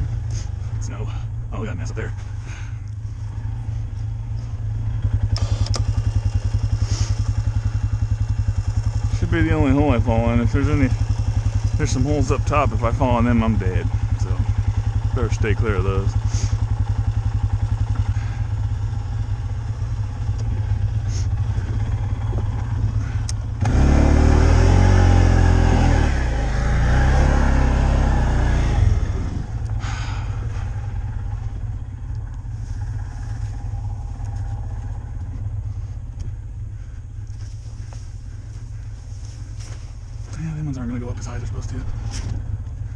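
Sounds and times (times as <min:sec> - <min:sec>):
vehicle engine revving in snow: 0:00.0 - 0:42.9.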